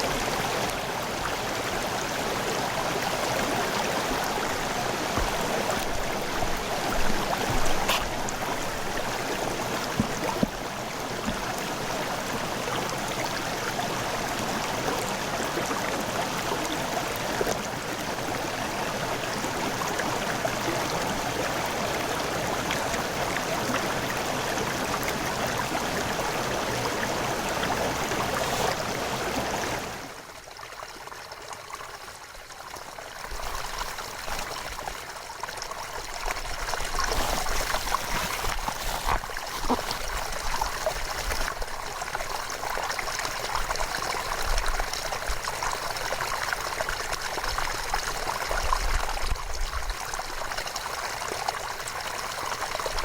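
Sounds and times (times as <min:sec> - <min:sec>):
water splashes: 0:00.0 - 0:30.2, 0:33.3 - 0:53.0.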